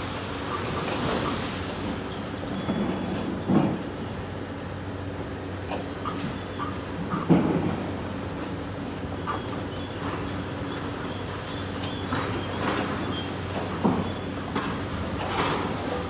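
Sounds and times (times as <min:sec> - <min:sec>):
diesel demolition machinery running: 0:00.0 - 0:16.0.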